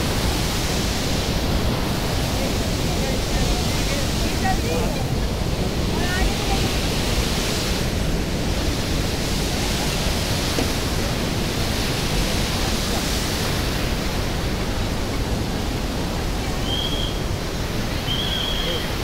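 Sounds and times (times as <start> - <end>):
river rushing over boulders: 0.0 - 19.0.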